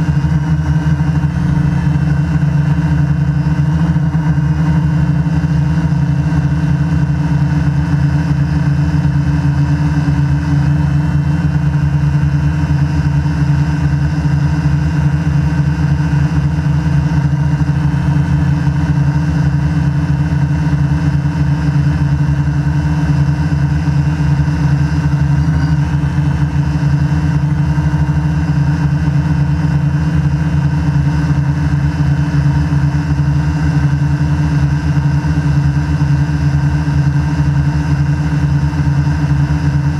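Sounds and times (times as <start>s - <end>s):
drone motors and propellers humming: 0.0s - 39.9s.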